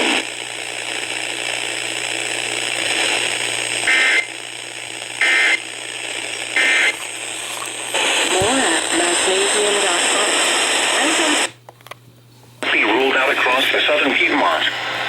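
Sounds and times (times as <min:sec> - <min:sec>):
radio hiss: 0:00.0 - 0:11.6, 0:12.6 - 0:15.0.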